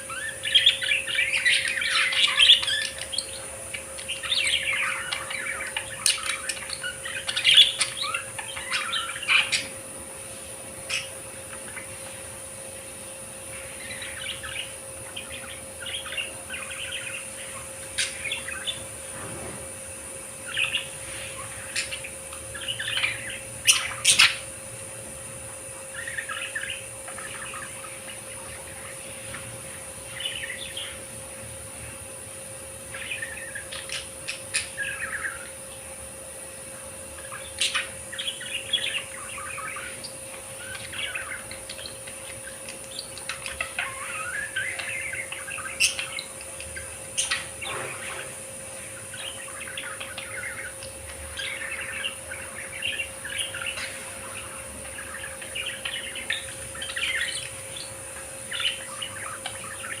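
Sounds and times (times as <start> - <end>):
budgerigars chattering: 0.0 - 19.1, 20.2 - 31.8, 32.8 - 60.0.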